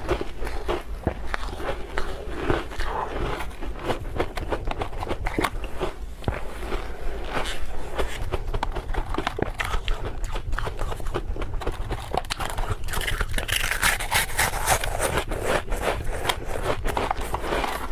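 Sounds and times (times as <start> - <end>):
ice chips being chewed: 0.0 - 17.9.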